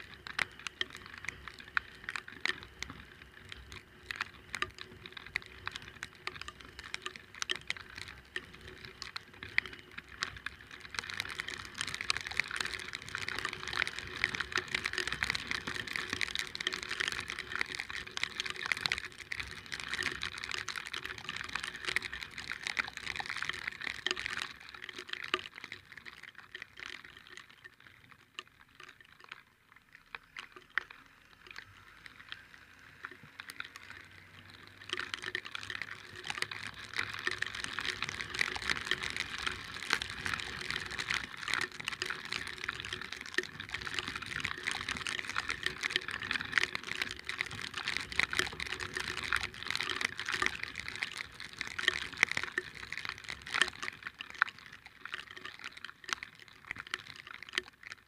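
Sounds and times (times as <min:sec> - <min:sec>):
rain pattering: 0:00.0 - 0:58.0
raindrops striking camera: 0:00.0 - 0:58.0.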